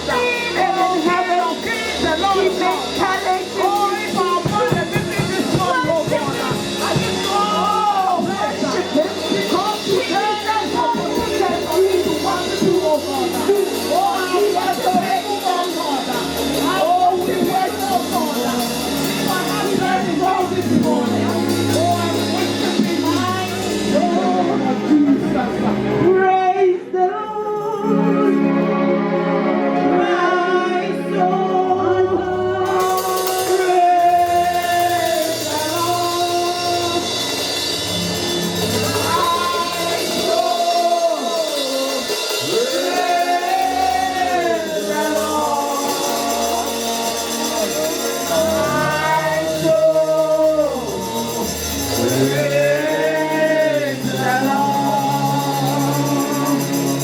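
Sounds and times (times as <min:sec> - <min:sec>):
cymbals: 0:00.0 - 0:26.0, 0:32.6 - 0:57.0
bass line: 0:00.0 - 0:26.4, 0:28.3 - 0:57.0
congregation singing gospel: 0:00.0 - 0:57.0.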